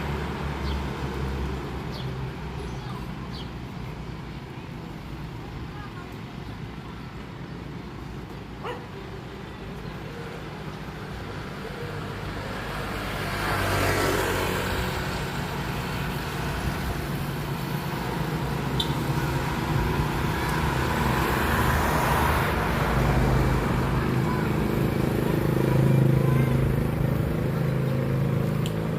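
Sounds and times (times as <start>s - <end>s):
vehicle engine and road noise: 0.0s - 28.9s.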